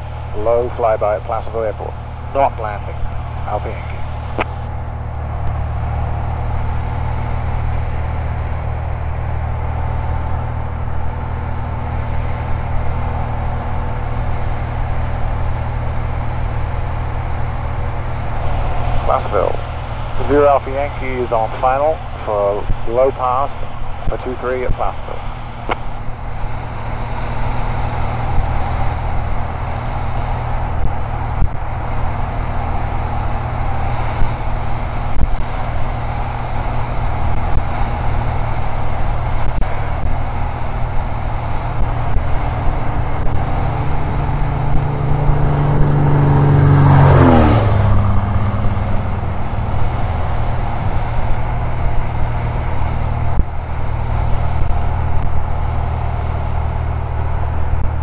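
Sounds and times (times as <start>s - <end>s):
propeller plane engine passing: 0.0s - 58.0s.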